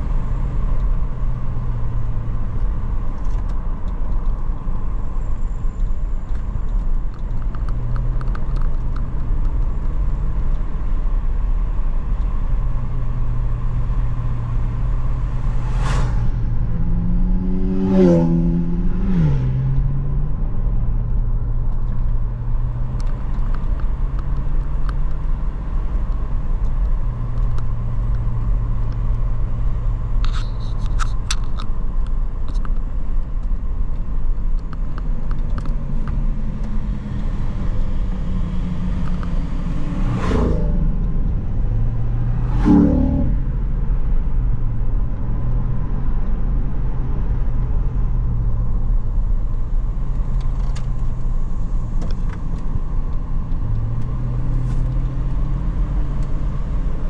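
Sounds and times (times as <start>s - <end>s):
road noise: 0.0s - 57.0s
vehicle engine hum: 0.0s - 57.0s
vehicles rushing past: 0.0s - 57.0s.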